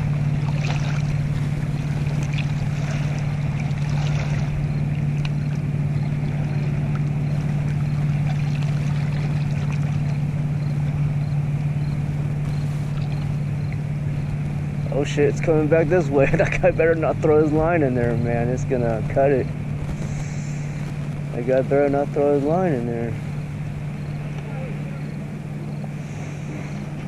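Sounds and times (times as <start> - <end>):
low motor hum: 0.0 - 27.0
river water washing on shore: 0.0 - 27.0.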